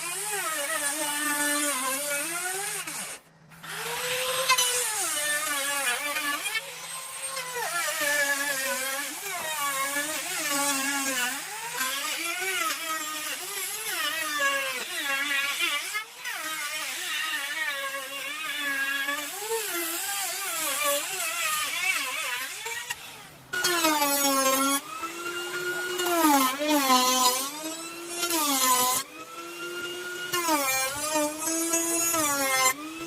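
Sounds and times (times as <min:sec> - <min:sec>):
electric drill running in wood: 0:00.0 - 0:33.0.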